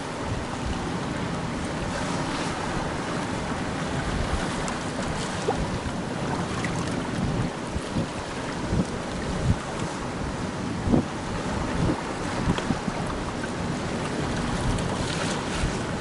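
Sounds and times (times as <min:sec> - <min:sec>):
sea surf on rocks: 0:00.0 - 0:16.0
wind buffeting microphone: 0:00.0 - 0:16.0.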